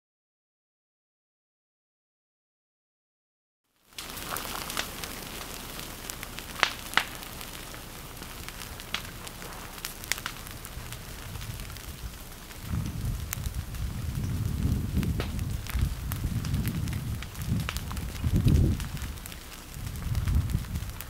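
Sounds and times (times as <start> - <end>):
fire crackles and pops: 3.7 - 21.0
vegetation burning hiss: 3.8 - 21.0.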